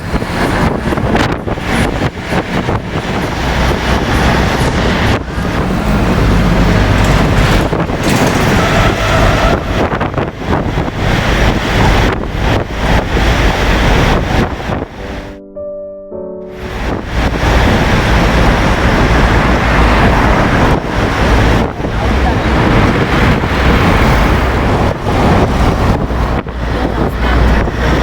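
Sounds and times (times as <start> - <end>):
wind buffeting microphone: 0.0 - 15.3, 16.5 - 28.0
steady rushing noise: 0.0 - 15.4, 16.5 - 28.0.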